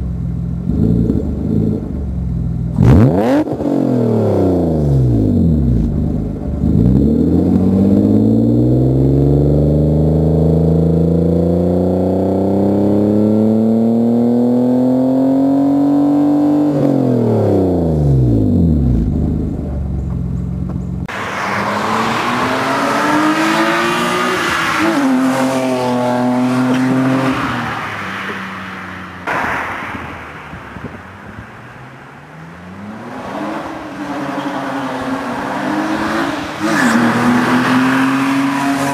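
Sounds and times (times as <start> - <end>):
car engine accelerating: 0.0 - 38.9
road and wind noise: 0.0 - 38.9.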